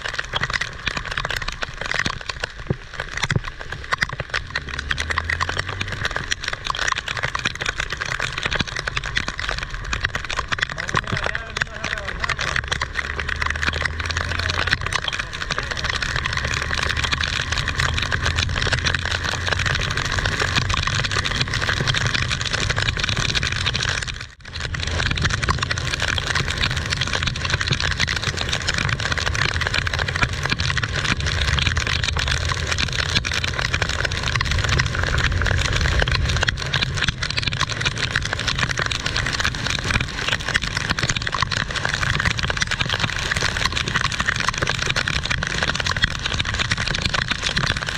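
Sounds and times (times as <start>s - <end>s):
heavy rain falling: 0.0s - 47.9s
low rumble: 4.3s - 42.7s.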